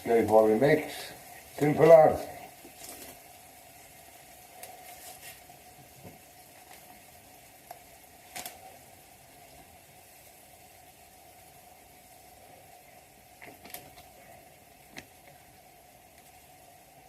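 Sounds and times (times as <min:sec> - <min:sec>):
sauce simmering in a pan: 0:00.0 - 0:17.0.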